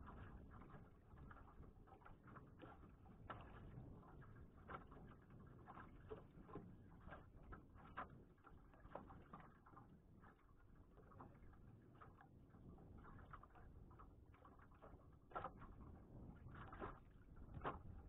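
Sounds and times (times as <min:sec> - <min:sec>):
faint small ticks and taps: 0:00.1 - 0:12.3, 0:13.0 - 0:18.0.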